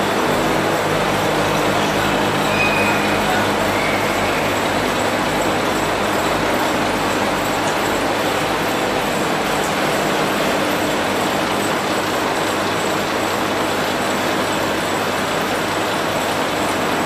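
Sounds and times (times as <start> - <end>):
carding machines droning: 0.0 - 17.0.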